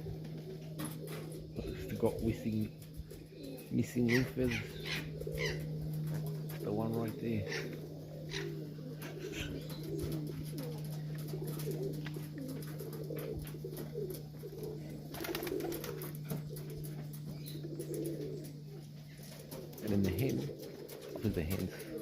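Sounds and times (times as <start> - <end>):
low electrical hum: 0.0 - 22.0
pigeons cooing: 0.0 - 22.0.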